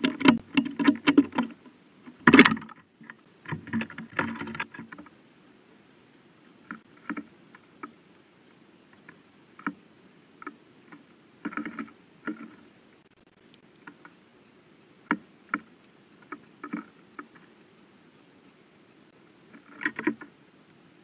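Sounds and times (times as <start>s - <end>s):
birds pecking on feeder tray: 0.0s - 5.2s, 6.4s - 20.4s.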